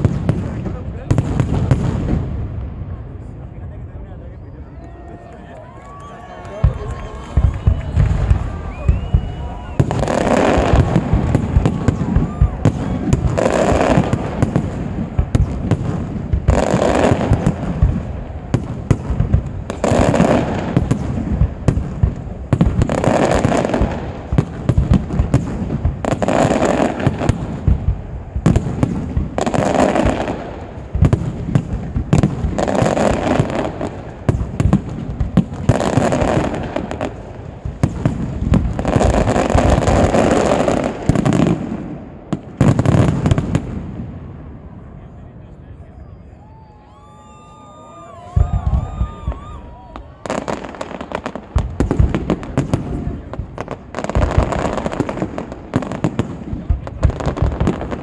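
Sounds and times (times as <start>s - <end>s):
fireworks bursting with bangs and crackle: 0.0s - 58.0s.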